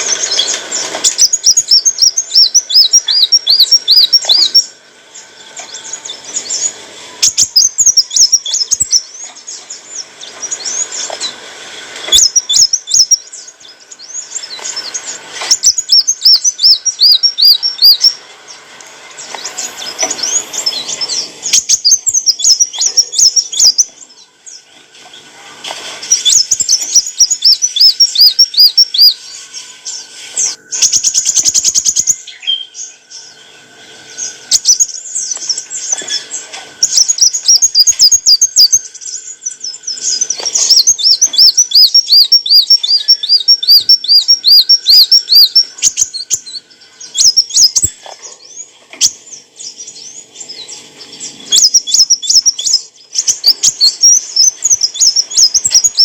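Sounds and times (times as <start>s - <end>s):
bird twittering: 0.0s - 25.2s, 26.0s - 56.0s.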